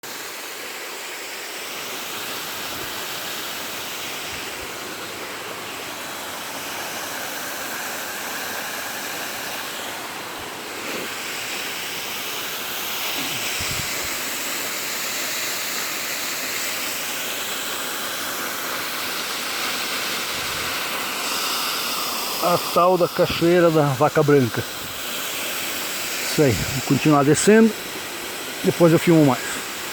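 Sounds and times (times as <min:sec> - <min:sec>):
waterfall roaring: 0:00.0 - 0:29.9.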